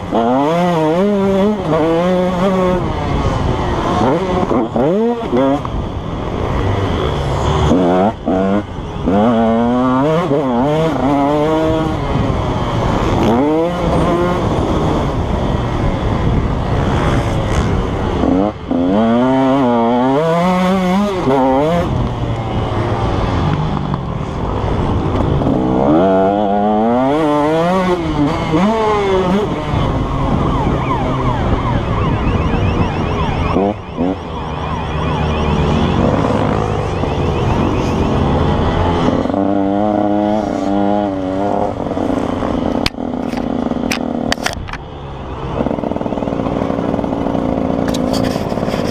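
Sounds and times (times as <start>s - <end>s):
two-stroke motorcycle engine revving: 0.0s - 48.9s.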